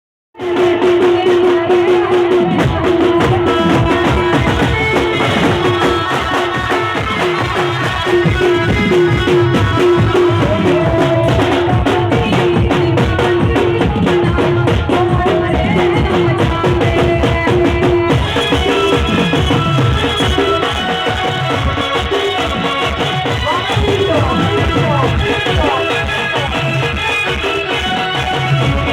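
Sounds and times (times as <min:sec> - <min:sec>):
folk music with drums: 0:00.4 - 0:28.9.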